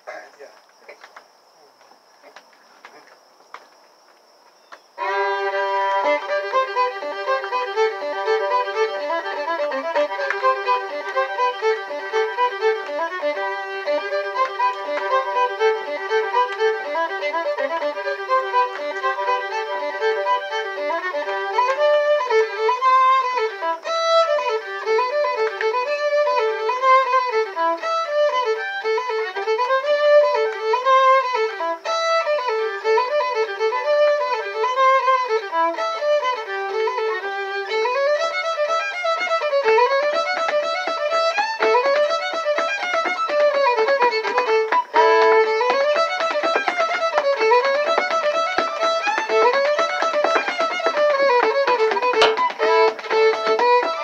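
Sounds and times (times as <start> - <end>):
faint insect trilling: 0.0 - 51.4
solo fiddle dance tune: 4.6 - 54.0.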